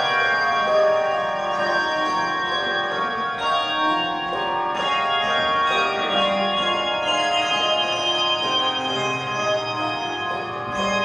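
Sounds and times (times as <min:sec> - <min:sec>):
handbell choir ringing chords: 0:00.0 - 0:11.0.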